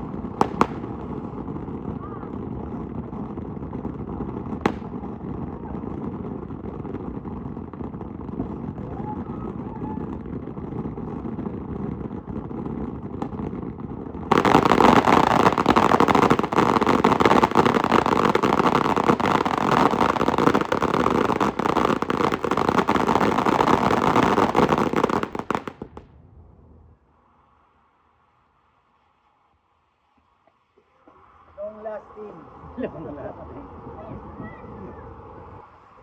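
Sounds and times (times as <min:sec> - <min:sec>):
firework hissing and crackling: 0:00.0 - 0:26.0, 0:27.1 - 0:36.0.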